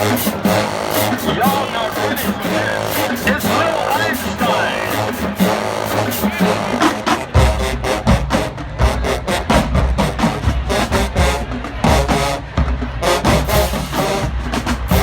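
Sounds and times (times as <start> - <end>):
drum-line beat: 0.0 - 15.0
marching band brass: 0.0 - 15.0.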